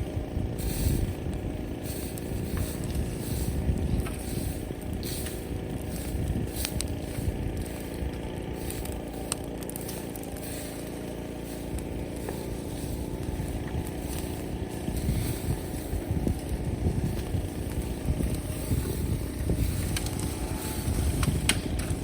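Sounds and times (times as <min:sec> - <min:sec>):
bonfire burning and crackling: 0:00.0 - 0:22.0.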